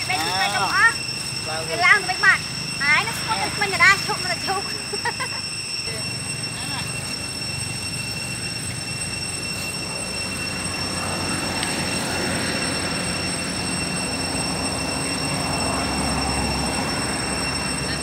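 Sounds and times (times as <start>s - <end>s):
high-pitched insect drone: 0.0s - 18.0s.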